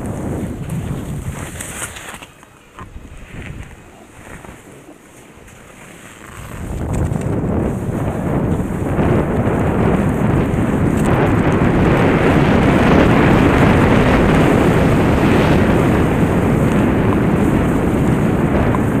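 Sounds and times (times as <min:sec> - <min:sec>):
skis running over snow: 0:00.0 - 0:19.0
wind rushing over microphone: 0:00.0 - 0:19.0.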